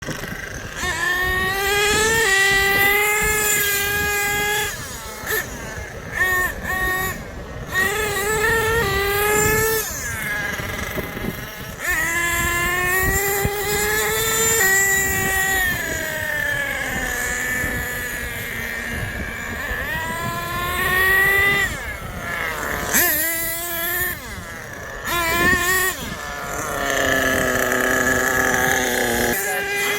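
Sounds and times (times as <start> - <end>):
small nitro engine revving: 0.0 - 29.9.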